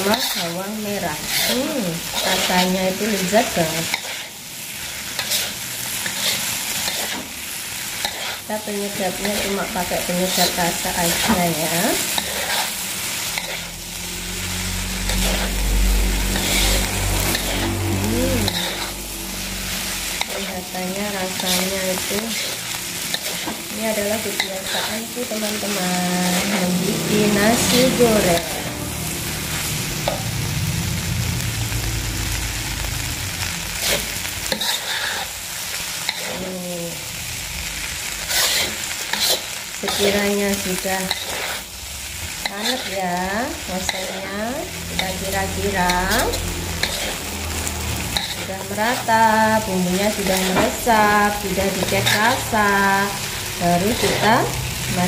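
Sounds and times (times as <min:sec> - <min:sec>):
spatula scraping a pan: 0:00.0 - 0:13.8, 0:14.8 - 0:19.0, 0:19.7 - 0:30.2, 0:33.7 - 0:35.4, 0:36.0 - 0:36.5, 0:38.2 - 0:41.8, 0:42.4 - 0:52.4
rice sizzling in a wok: 0:00.0 - 0:55.0.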